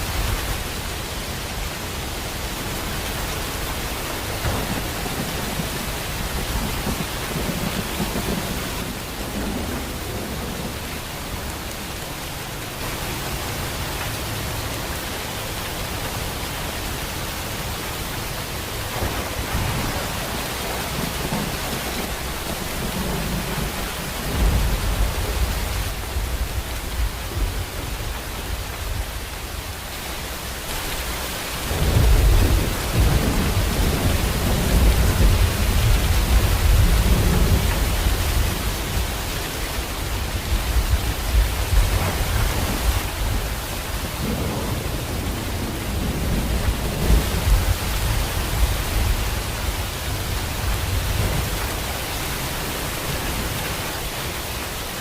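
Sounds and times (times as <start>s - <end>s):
heavy rain: 0.0s - 55.0s
thunder rumbling: 2.0s - 12.0s, 17.5s - 29.8s, 31.5s - 53.6s.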